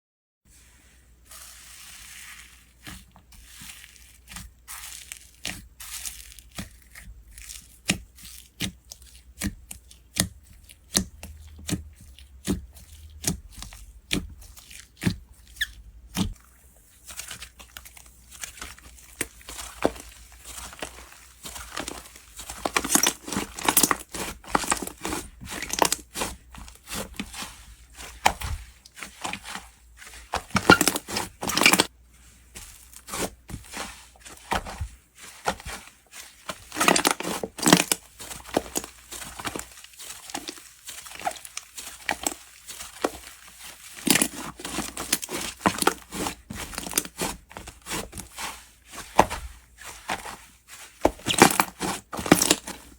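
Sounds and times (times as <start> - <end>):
slime squishing and tearing: 1.3 - 31.9, 32.6 - 52.9.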